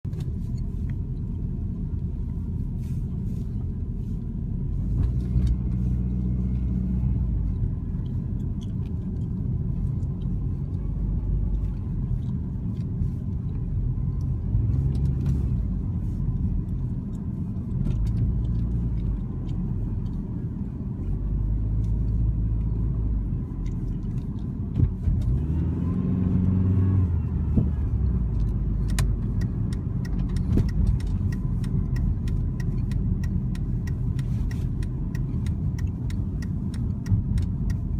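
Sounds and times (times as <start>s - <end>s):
car engine rumble: 0.0s - 37.9s.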